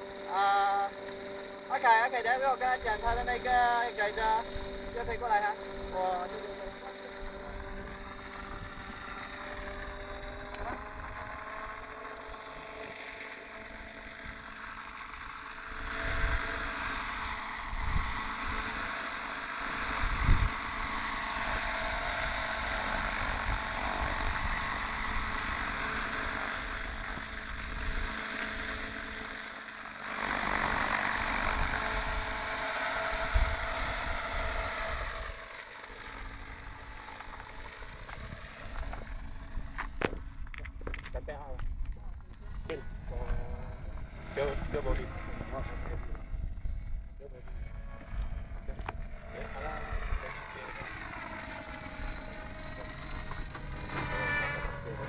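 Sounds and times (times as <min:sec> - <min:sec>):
model helicopter whine: 0:00.0 - 0:55.0.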